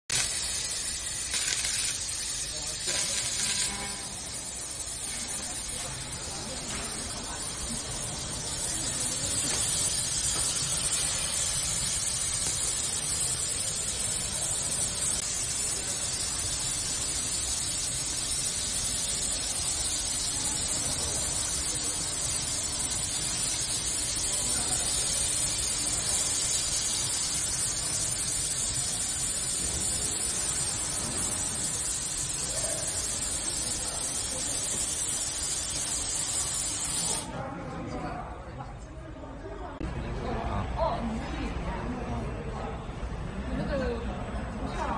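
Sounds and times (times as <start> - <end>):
laser cutter gas hiss: 0.0 - 37.4.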